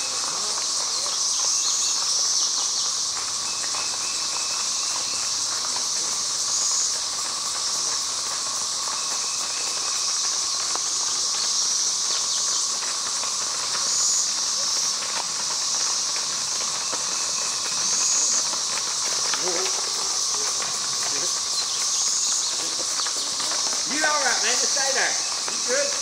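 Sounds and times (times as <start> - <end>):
cicadas chorus whining: 0.0 - 26.0
horse hooves clopping on road: 0.0 - 26.0.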